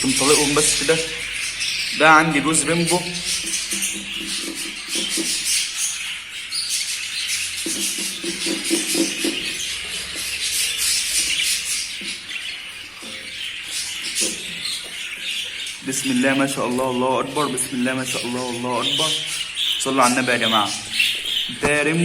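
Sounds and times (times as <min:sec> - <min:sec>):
budgerigars chattering and chirping: 0:00.0 - 0:22.0.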